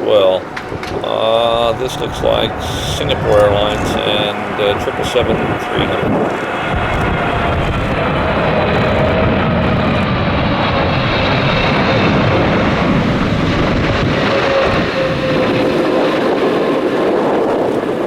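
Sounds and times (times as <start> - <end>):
jet engines roaring overhead: 0.0 - 18.0.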